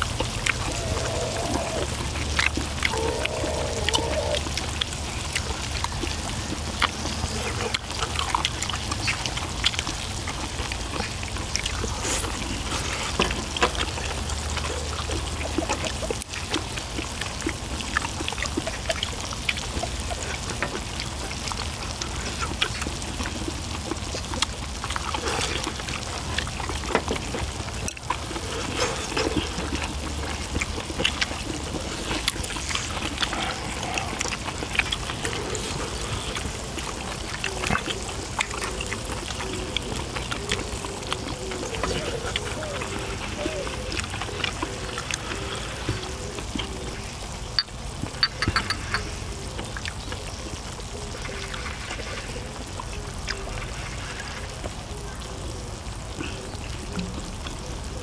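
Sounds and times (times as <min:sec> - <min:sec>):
close-up chewing: 0:00.0 - 0:58.0.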